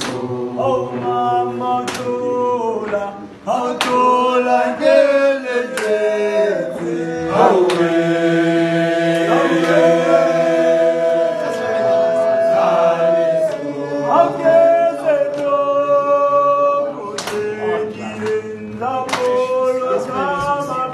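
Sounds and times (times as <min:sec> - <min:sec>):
men singing in harmony: 0:00.0 - 0:20.9.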